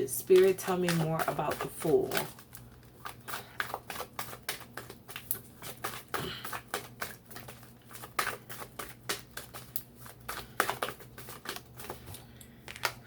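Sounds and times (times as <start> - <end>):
cards being shuffled: 0.3 - 13.0.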